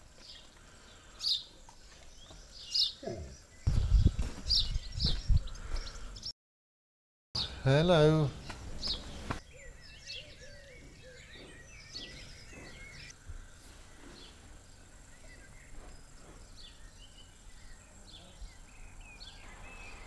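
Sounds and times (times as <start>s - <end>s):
birds chirping and whistling: 0.3s - 6.3s, 8.3s - 20.0s.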